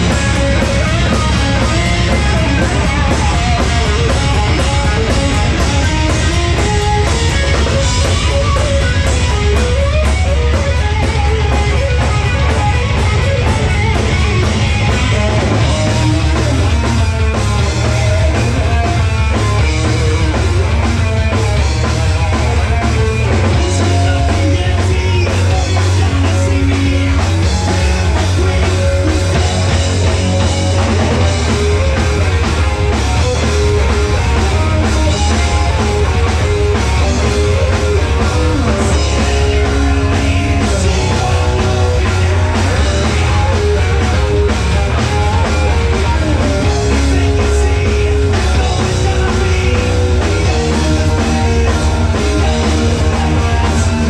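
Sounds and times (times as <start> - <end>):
drum kit: 0.0 - 54.0
electric guitar: 0.0 - 54.0
heavy booming bass: 0.0 - 54.0
live rock band playing: 0.0 - 54.0.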